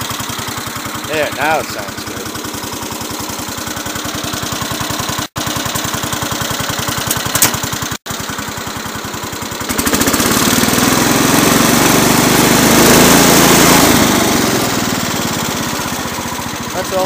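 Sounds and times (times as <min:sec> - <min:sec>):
single-cylinder engine running: 0:00.0 - 0:17.0.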